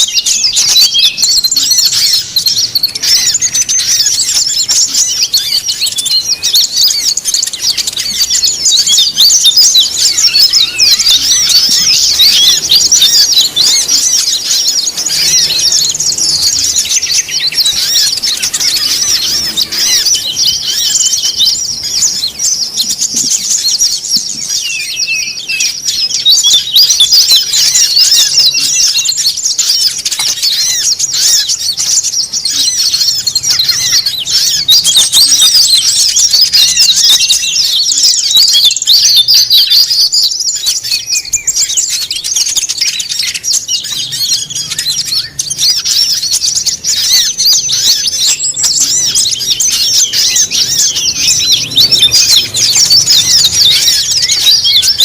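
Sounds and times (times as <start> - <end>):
songbirds chattering: 0.0 - 55.0.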